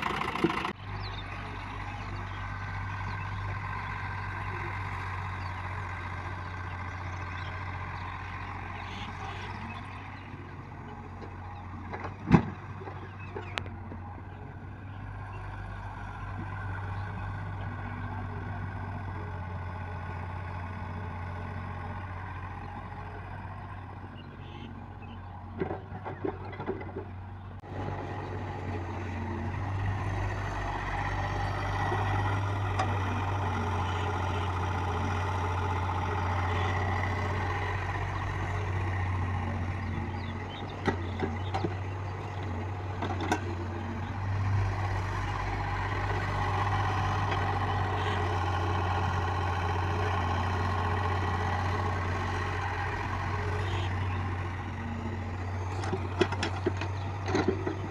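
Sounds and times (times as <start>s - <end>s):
heavy diesel engine running: 0.0s - 57.9s.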